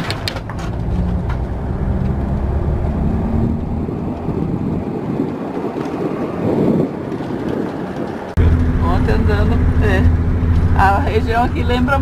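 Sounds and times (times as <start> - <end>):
engine and road noise drone: 0.0 - 12.0
wind rushing over microphone: 0.7 - 12.0.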